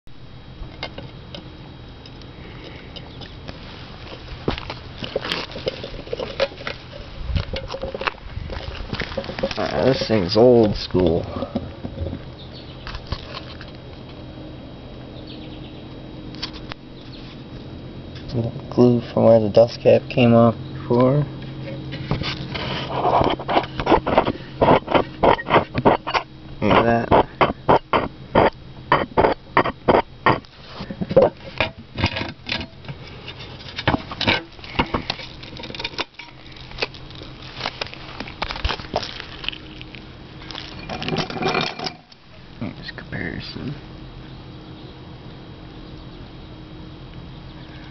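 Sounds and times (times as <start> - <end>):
low steady hum: 0.1 - 47.9.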